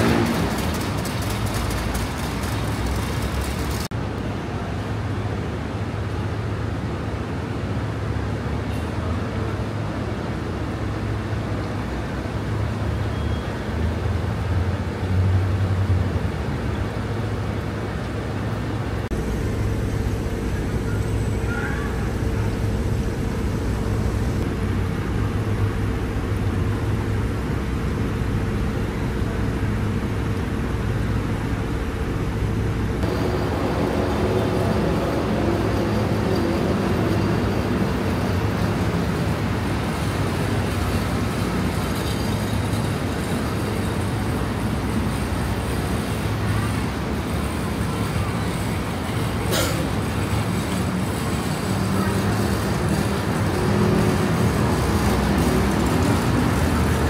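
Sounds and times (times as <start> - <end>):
rumble of passing cars: 0.0 - 57.0.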